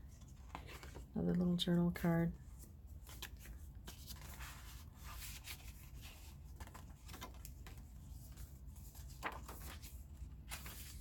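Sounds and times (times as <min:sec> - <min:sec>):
paper pages rustling: 0:00.1 - 0:01.1, 0:02.5 - 0:11.0.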